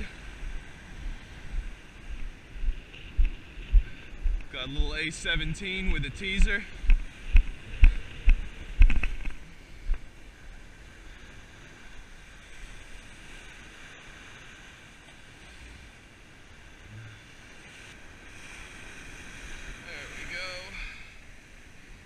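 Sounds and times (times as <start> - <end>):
waves washing onto beach: 0.0 - 22.0
wind: 0.0 - 22.0.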